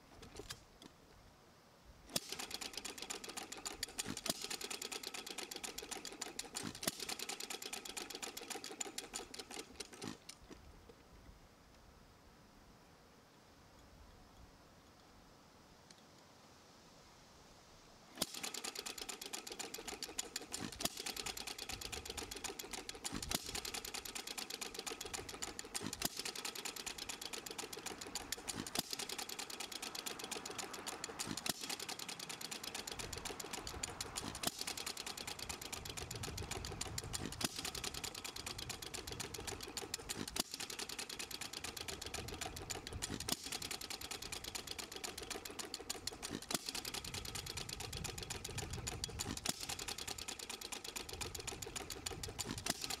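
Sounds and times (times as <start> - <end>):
engine mechanical clatter: 2.1 - 10.4, 18.2 - 53.0.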